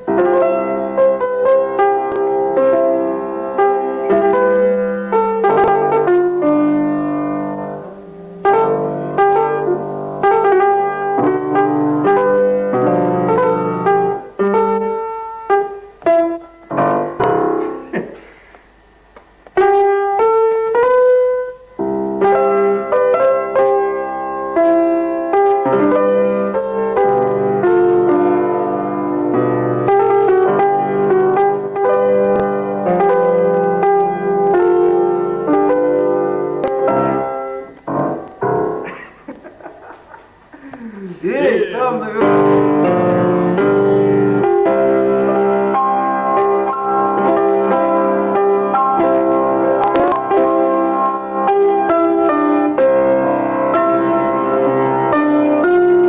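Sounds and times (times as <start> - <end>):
keyboard notes and chords: 0.0 - 18.0, 19.5 - 56.0.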